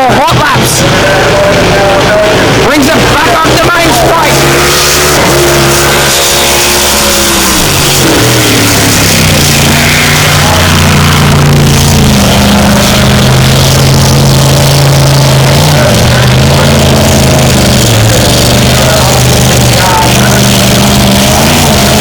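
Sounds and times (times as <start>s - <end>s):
race boat engine running hard: 0.0s - 22.0s.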